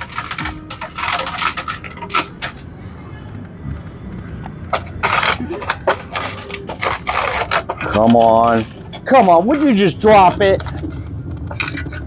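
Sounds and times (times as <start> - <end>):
coins clinking and clattering: 0.0 - 3.4, 4.7 - 12.0.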